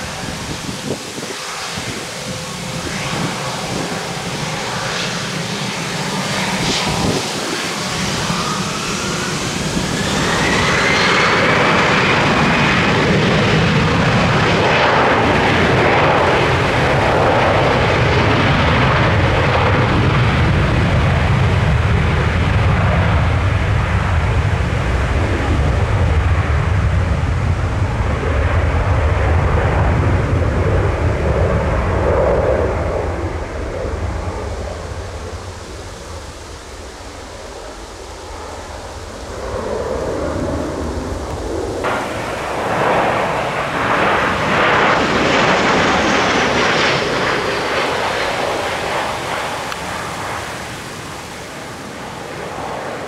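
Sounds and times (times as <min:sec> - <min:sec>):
airliner engines roaring: 0:00.0 - 0:53.0.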